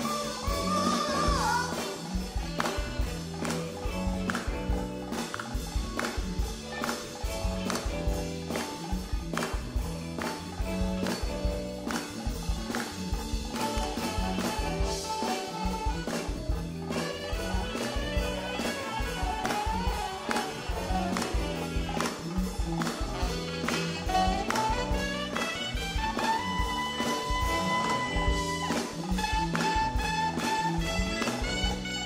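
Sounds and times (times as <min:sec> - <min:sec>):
soul band playing: 0:00.0 - 0:32.0
steady drum beat: 0:00.0 - 0:32.0.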